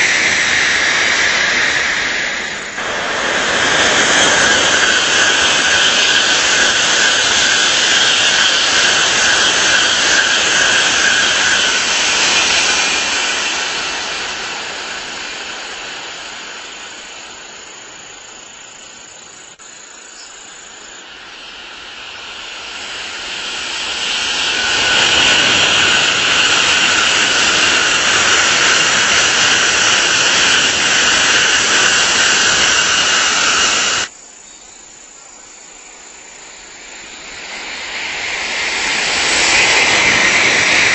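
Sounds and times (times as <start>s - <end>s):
bullet train passing: 0.0s - 34.2s, 35.2s - 40.9s.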